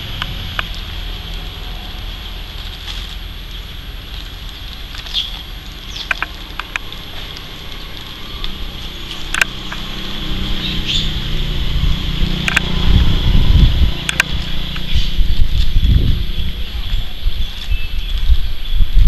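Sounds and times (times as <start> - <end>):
insect drone: 0.0 - 19.0
low rumble: 0.0 - 19.0.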